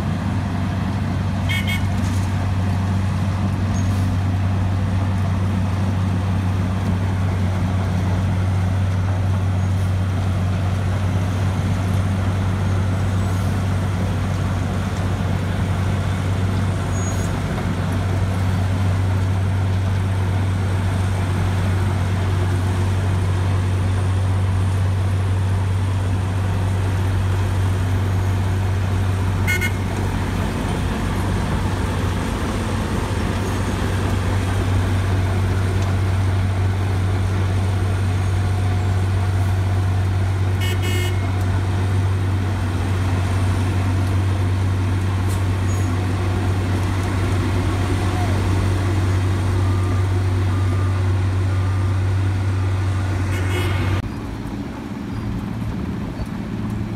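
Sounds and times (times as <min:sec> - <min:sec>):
milling machine grinding road: 0:00.0 - 0:40.6, 0:41.2 - 0:56.9
diesel engine drone: 0:00.0 - 0:56.9.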